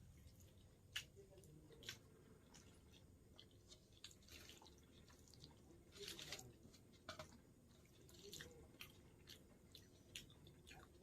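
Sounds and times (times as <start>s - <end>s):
person chewing wetly: 0.0s - 11.0s.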